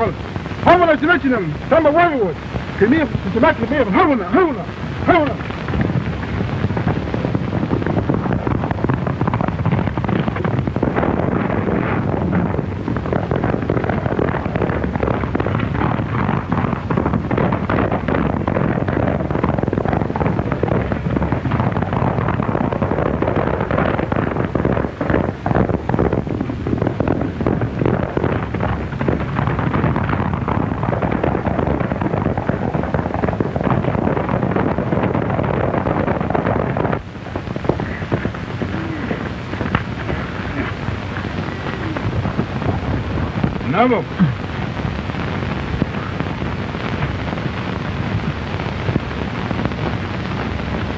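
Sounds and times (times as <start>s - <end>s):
horses galloping: 0.0s - 47.2s
film soundtrack hiss and crackle: 0.0s - 50.9s.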